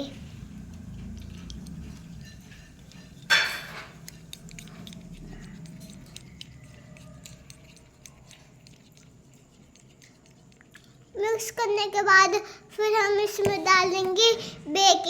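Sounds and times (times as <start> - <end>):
squishy slime stirring: 0.0 - 12.2.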